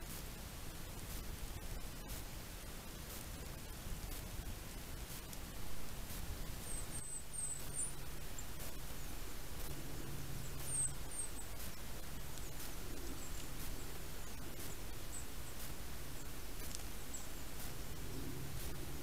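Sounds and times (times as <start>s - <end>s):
low hum and hiss: 0.0s - 19.0s.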